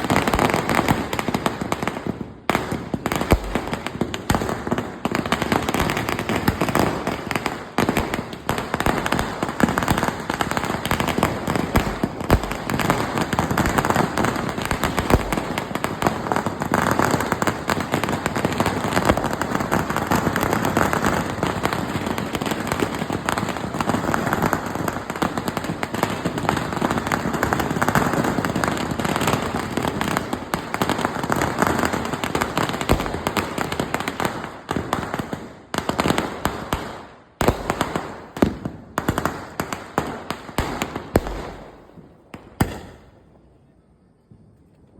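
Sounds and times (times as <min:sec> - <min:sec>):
firecrackers banging: 0:00.0 - 0:43.3.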